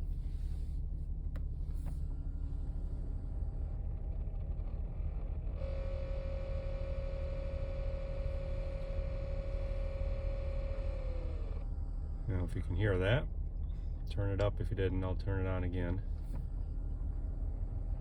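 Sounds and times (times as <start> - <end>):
vehicle running rumble: 0.0 - 18.0
whirring growling dashboard noise: 0.0 - 18.0.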